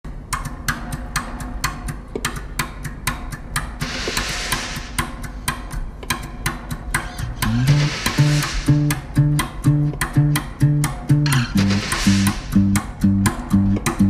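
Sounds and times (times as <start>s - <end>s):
rhythmic sharp clicks: 0.1s - 14.0s.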